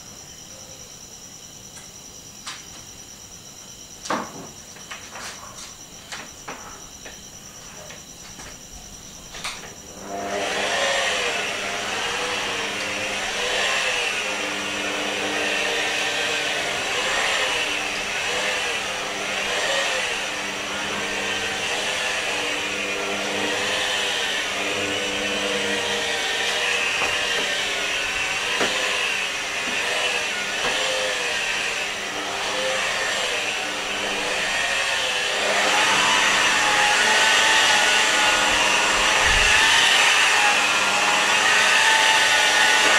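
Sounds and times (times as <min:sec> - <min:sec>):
rotary polisher motor running: 0:05.8 - 0:42.9.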